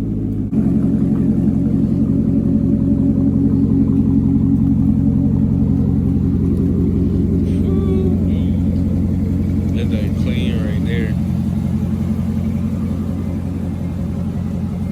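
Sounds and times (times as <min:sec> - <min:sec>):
car exhaust idling rumble: 0:00.0 - 0:14.9.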